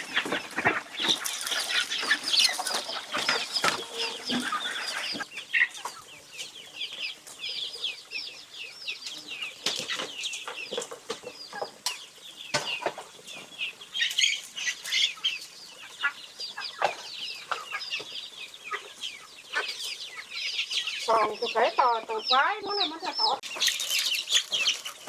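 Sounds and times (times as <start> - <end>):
chickens peeping and chirping: 0.0 - 25.0.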